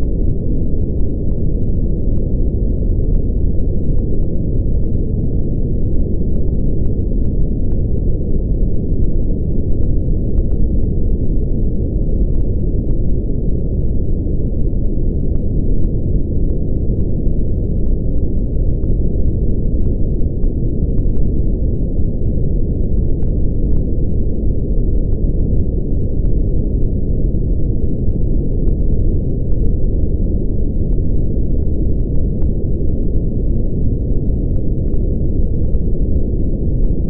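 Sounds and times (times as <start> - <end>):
brown noise rumble: 0.0 - 37.0.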